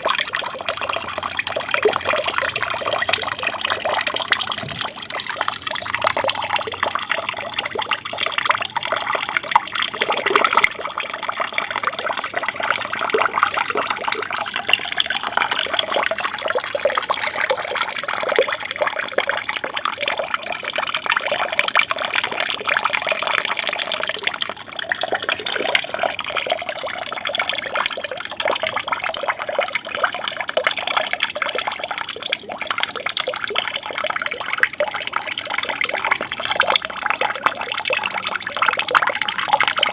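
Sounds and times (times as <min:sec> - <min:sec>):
aquarium waterfall splashing: 0:00.0 - 0:39.9.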